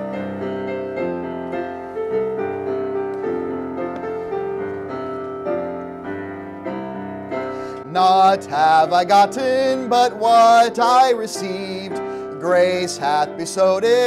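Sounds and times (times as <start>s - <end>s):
digital piano playing hymn chords: 0.0s - 14.0s.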